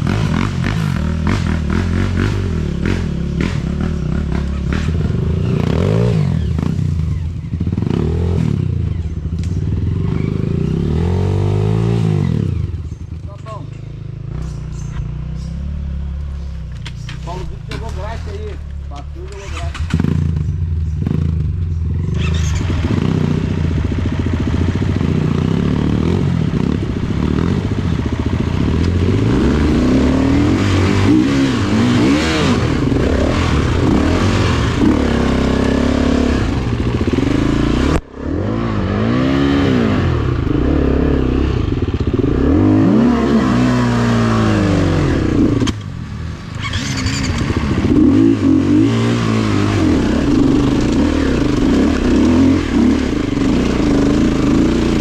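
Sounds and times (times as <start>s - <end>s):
dirt bike engine revving: 0.0s - 45.9s, 46.5s - 55.0s.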